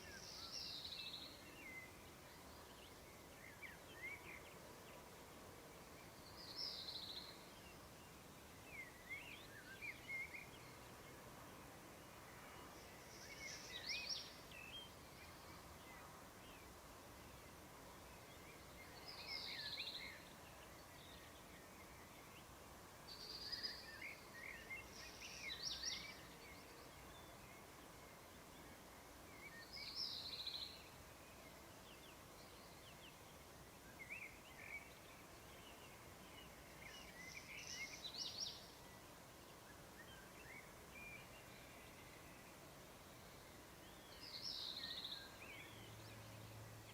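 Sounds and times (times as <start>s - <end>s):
faint outdoor background hiss: 0.0s - 46.9s.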